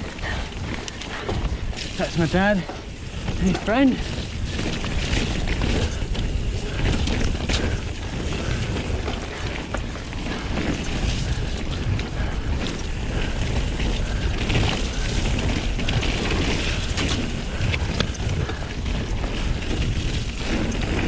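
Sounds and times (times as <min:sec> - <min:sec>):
bike tyres rolling on dirt: 0:00.0 - 0:21.0
wind buffeting microphone: 0:00.0 - 0:21.0
bike knocks and rattles: 0:00.2 - 0:21.0.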